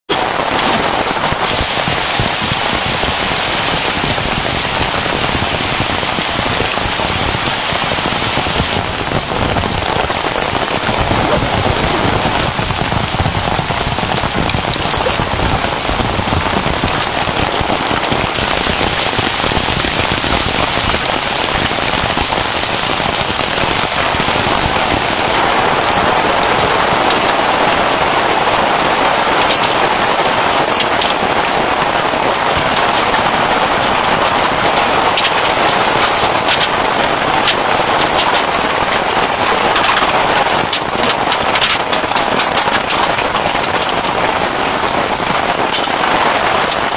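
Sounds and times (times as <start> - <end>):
heavy rain: 0.0 - 46.9
raindrops striking a surface: 0.1 - 46.9.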